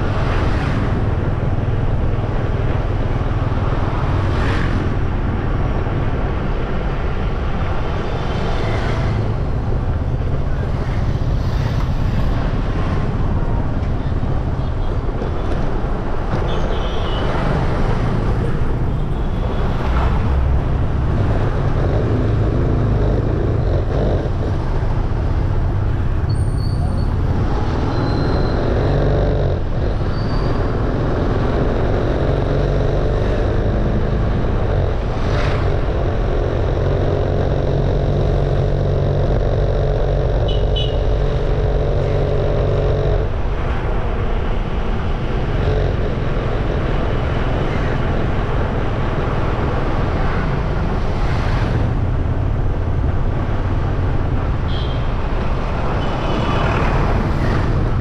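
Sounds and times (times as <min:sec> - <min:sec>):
motorcycle engine cruising: 0:00.0 - 0:58.0
road noise: 0:00.0 - 0:58.0
street traffic: 0:00.0 - 0:58.0.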